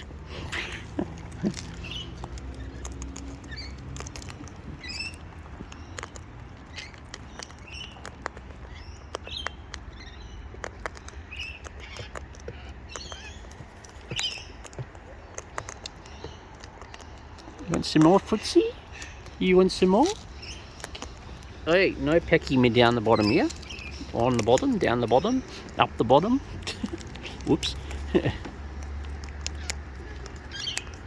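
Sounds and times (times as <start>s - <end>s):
birds chirping: 0.0s - 31.0s
birds pecking seeds: 0.0s - 31.0s.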